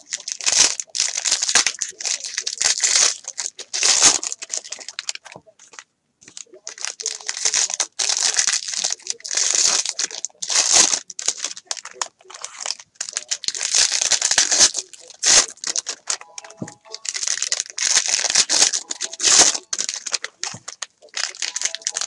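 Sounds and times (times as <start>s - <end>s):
foil wrappers crinkling and tearing: 0.0s - 22.0s.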